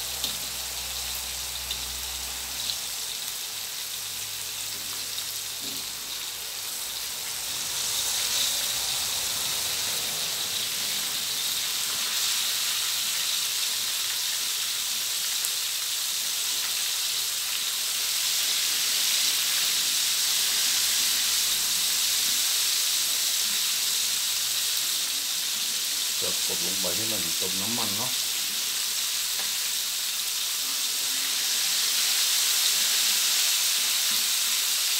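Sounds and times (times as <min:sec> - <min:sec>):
wings sizzling in hot oil: 0:00.0 - 0:34.9.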